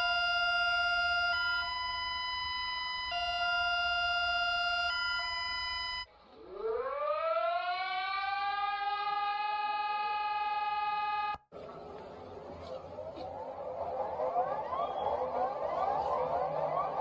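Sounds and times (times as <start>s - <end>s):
emergency alert alarm tone: 0.0s - 11.4s, 13.0s - 17.0s
siren winding up to a wail: 0.0s - 11.4s, 12.8s - 17.0s.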